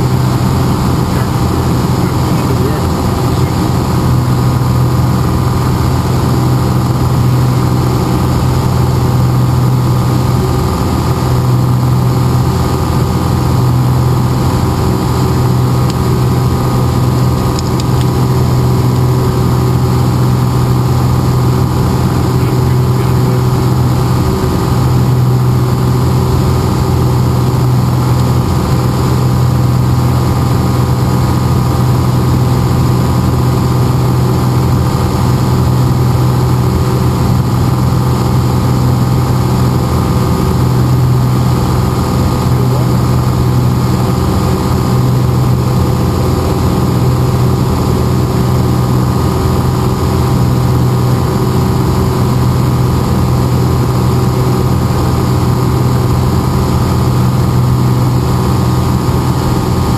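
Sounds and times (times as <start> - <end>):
plane engine drone in cabin: 0.0 - 59.9.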